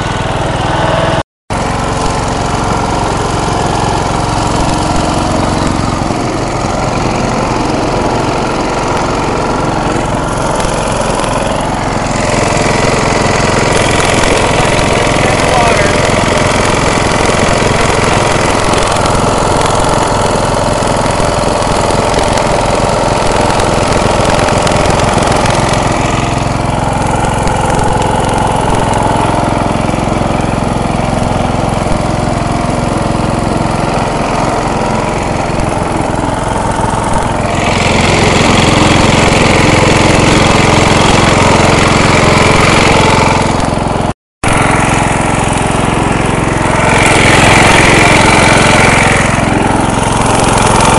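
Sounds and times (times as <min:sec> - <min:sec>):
riding mower engine running: 0:00.0 - 0:50.9.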